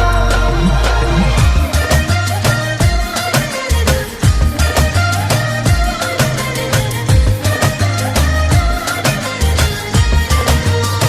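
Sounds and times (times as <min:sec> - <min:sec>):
film song with heavy bass beat: 0:00.0 - 0:11.0.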